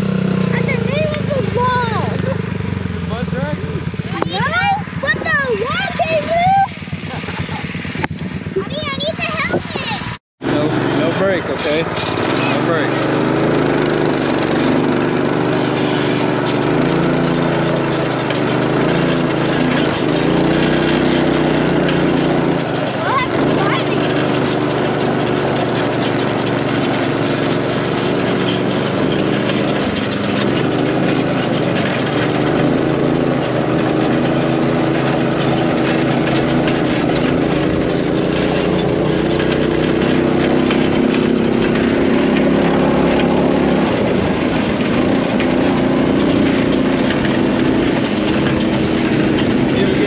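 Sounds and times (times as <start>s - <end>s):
go-kart engine running: 0.0s - 50.0s.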